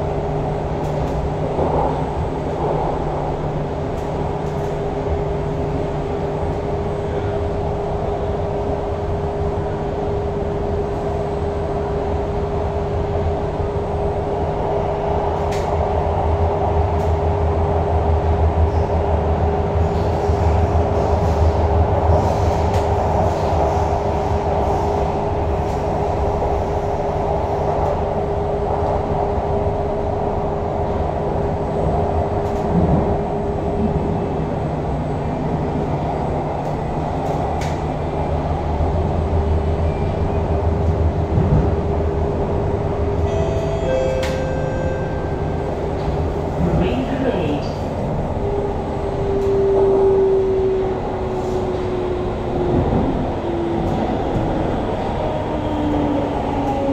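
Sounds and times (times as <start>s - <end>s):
train wheels rumbling on track: 0.0s - 56.9s.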